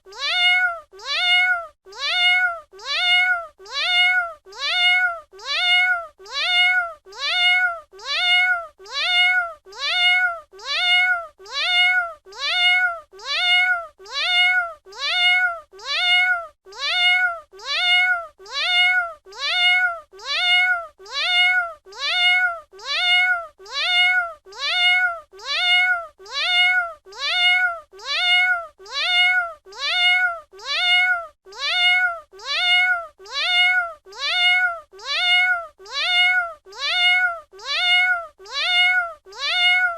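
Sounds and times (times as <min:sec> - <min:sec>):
cat meowing: 0:00.1 - 0:39.9.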